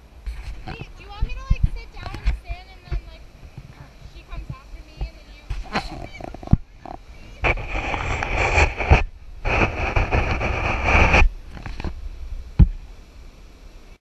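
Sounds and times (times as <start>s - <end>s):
scraping noise: 0.3s - 12.0s.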